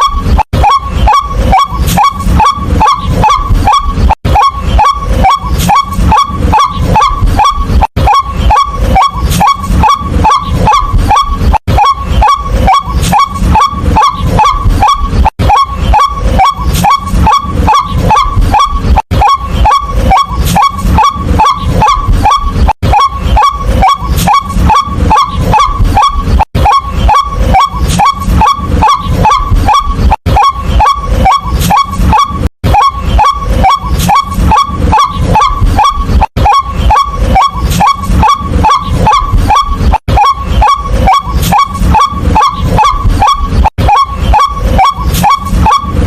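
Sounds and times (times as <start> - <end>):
waterhen croaking calls: 0.0 - 46.0.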